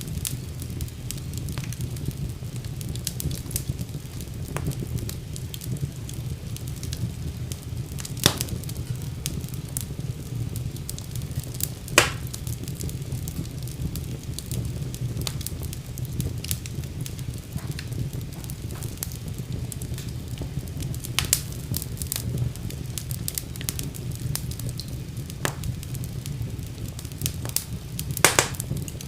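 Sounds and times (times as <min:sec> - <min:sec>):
fire crackles: 0:00.0 - 0:29.0
fire pops: 0:00.0 - 0:29.0
low rumble of flames: 0:00.0 - 0:29.0.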